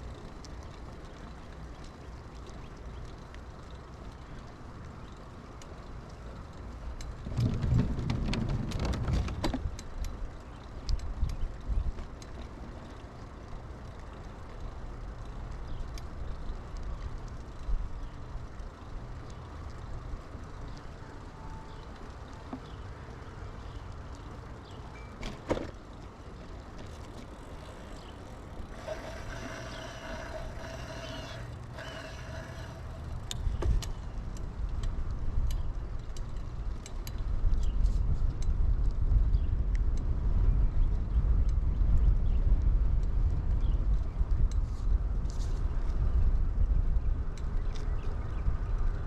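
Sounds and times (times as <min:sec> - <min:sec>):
bicycle tyre rumble: 0:00.0 - 0:49.0
wind: 0:00.0 - 0:49.0.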